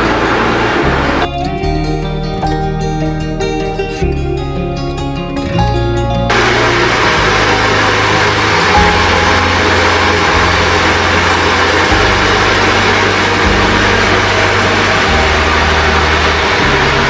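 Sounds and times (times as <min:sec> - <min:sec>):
background music with bass line: 0:00.0 - 0:17.0.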